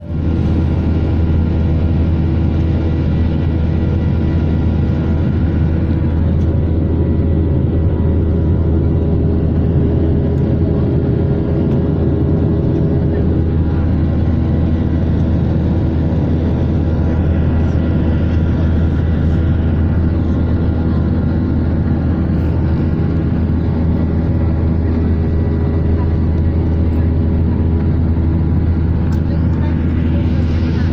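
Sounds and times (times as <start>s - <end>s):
airliner engines rumbling: 0.0s - 30.9s.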